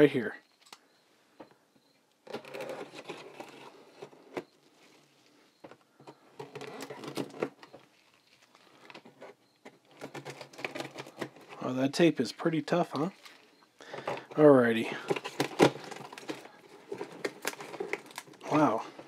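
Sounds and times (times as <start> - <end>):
rustling and crinkling: 2.2 - 19.0.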